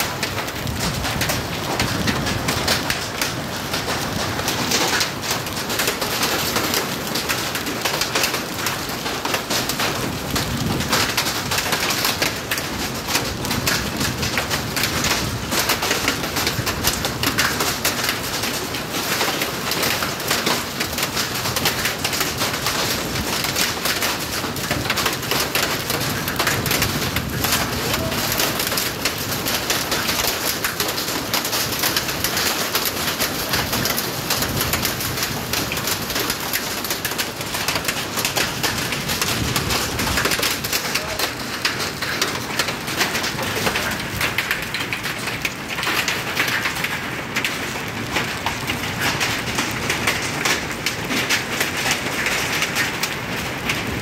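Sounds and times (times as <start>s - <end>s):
heavy rain and hail on roof: 0.0s - 54.0s.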